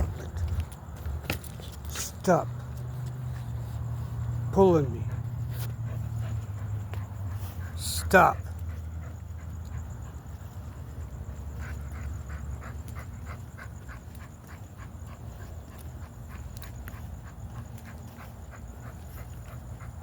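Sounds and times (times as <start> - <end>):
cricket trill: 0.0 - 20.0
dog panting: 1.8 - 20.0.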